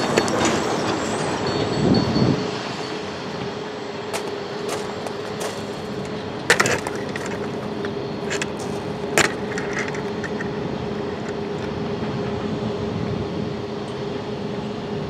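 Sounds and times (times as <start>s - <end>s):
freight train rolling: 0.0s - 15.0s.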